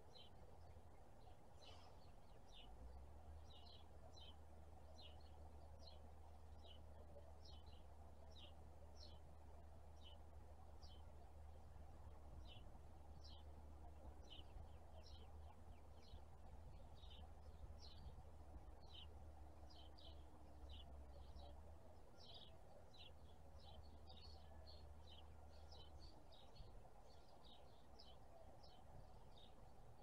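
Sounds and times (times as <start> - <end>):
birds chirping: 0.0 - 30.0
low steady rumble: 0.0 - 30.0.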